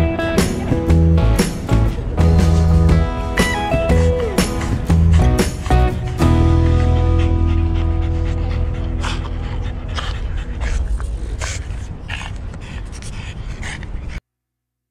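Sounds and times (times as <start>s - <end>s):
dog panting: 2.3s - 14.2s.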